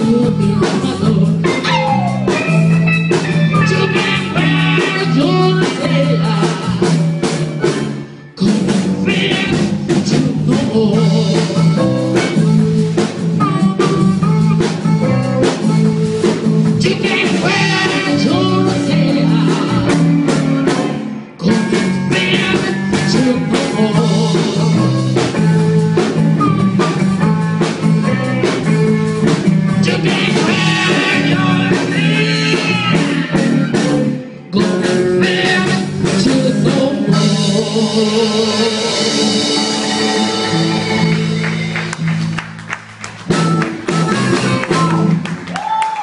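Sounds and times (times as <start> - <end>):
blues band playing live: 0.0 - 46.0
drum kit: 0.0 - 46.0
electric guitar: 0.0 - 46.0.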